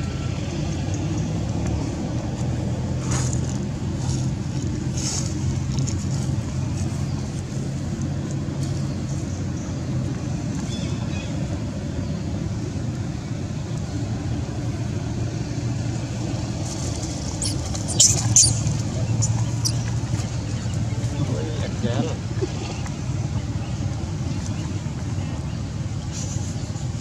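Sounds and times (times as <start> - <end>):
low engine drone: 0.0 - 27.0.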